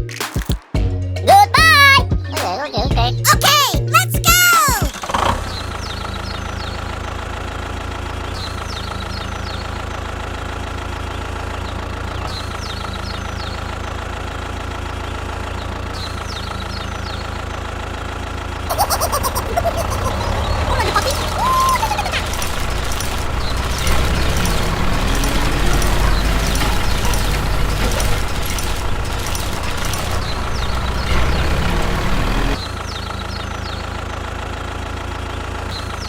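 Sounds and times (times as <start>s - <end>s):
engine clattering: 4.9s - 36.0s
engine idling: 4.9s - 36.0s.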